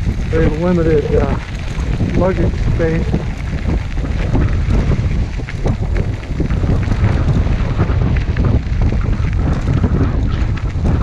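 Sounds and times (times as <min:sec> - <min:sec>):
tyres clicking and rattling on gravel: 0:00.0 - 0:11.0
wind buffeting microphone: 0:00.0 - 0:11.0.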